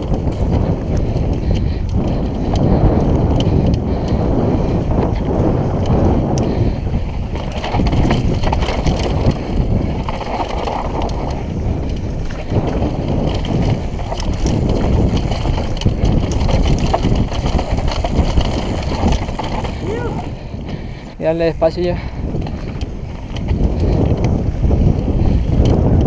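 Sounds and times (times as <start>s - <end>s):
bike rattling and knocking: 0.0s - 26.0s
wind rushing over microphone: 0.0s - 26.0s.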